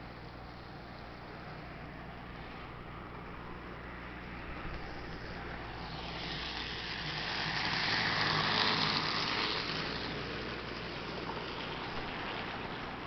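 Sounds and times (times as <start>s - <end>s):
model train wheels and motor whirring: 0.0s - 13.0s.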